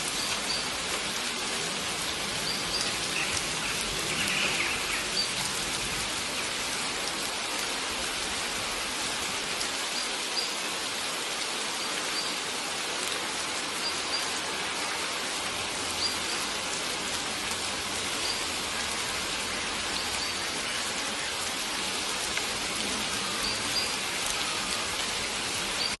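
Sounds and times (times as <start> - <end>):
steady rain falling: 0.0 - 26.0
stream flowing: 0.0 - 26.0.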